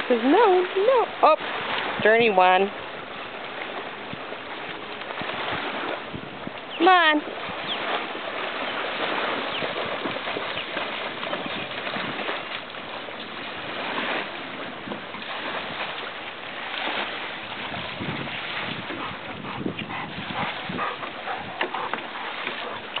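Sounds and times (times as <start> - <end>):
dog splashing through water: 3.6 - 6.1, 6.7 - 23.0.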